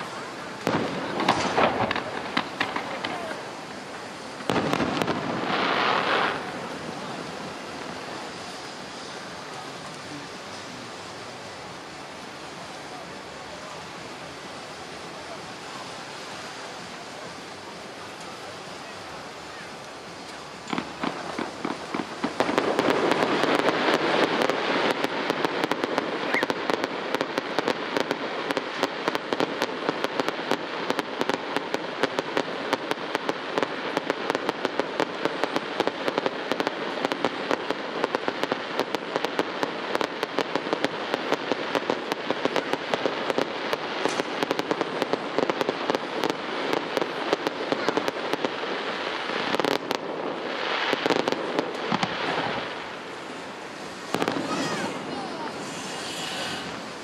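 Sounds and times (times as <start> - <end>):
fireworks crackling and banging: 0.0 - 57.0.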